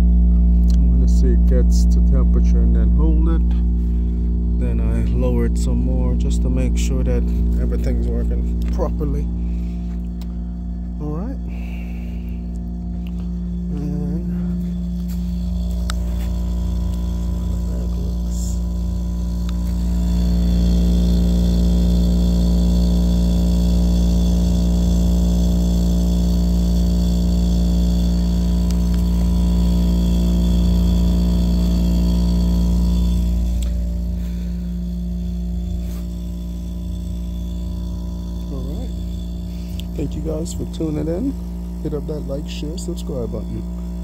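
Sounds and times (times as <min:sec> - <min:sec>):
refrigeration compressor humming: 0:00.0 - 0:44.0.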